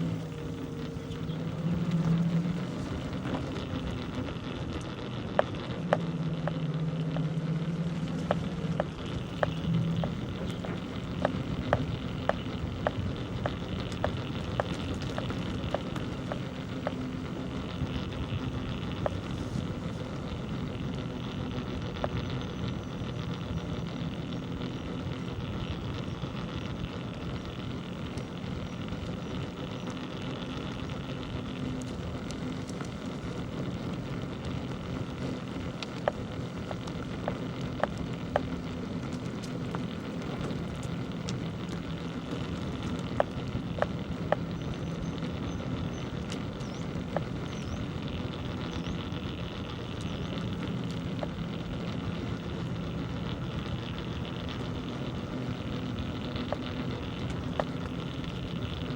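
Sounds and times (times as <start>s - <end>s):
bicycle road and wind noise: 0.0s - 58.9s.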